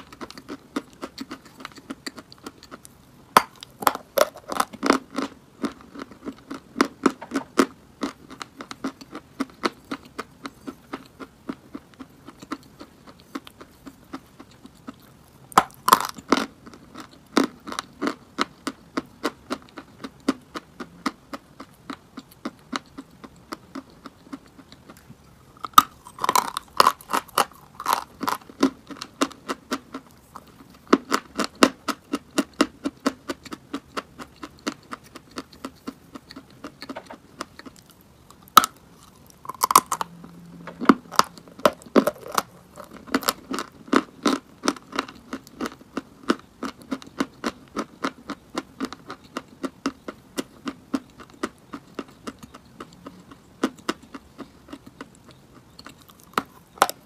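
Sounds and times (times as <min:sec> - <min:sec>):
chalk being chewed with crunches: 0:00.0 - 0:57.0.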